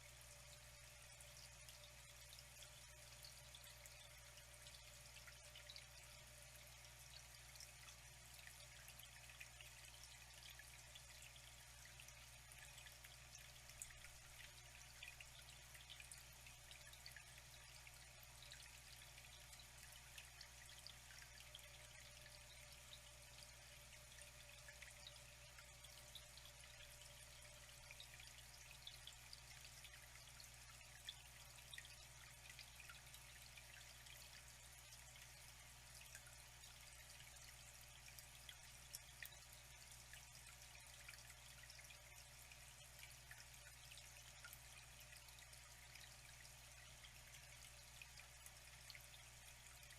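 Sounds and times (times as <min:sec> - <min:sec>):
water drips and splashes: 0:00.0 - 0:49.9
water trickling: 0:00.0 - 0:49.9.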